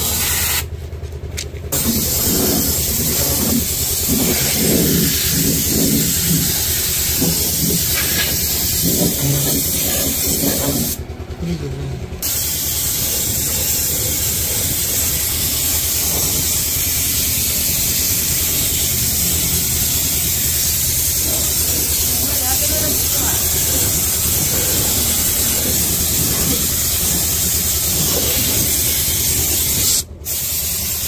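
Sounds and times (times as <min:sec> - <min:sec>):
spray gun hissing: 0:00.0 - 0:00.7, 0:01.8 - 0:11.0, 0:12.2 - 0:31.0.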